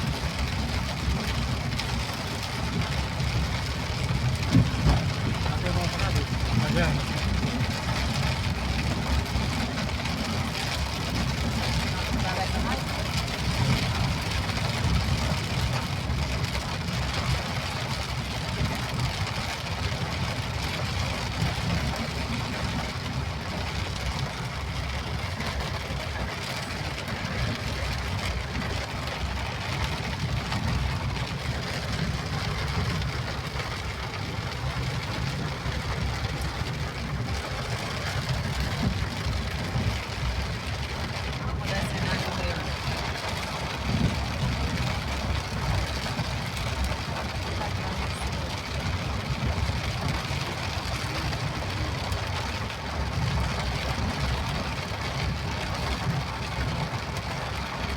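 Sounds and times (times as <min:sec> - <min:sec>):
rain falling: 0:00.0 - 0:57.9
vehicle engine and road noise: 0:00.0 - 0:57.9.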